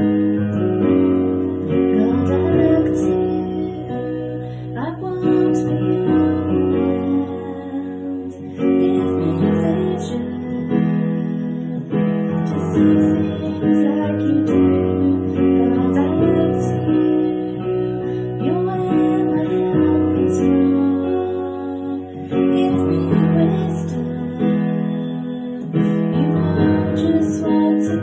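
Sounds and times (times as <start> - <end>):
keyboard playing worship chords: 0.0 - 28.0.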